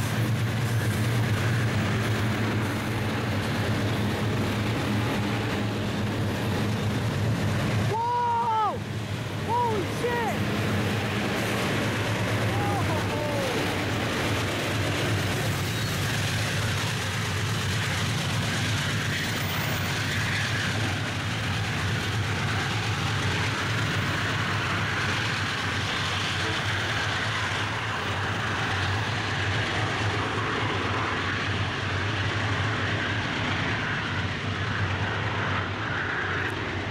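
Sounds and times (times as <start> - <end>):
locomotive engine drone: 0.0 - 36.9
train rumbling by: 0.0 - 36.9.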